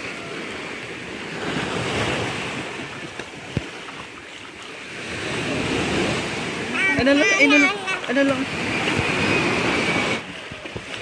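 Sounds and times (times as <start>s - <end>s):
small waves washing ashore: 0.0s - 11.0s.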